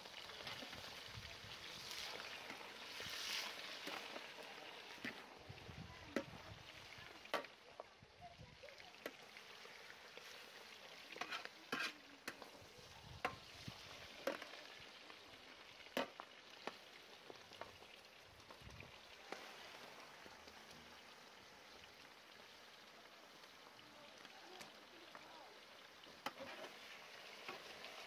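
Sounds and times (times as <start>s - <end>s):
beef sizzling in hot oil: 0.0s - 28.0s.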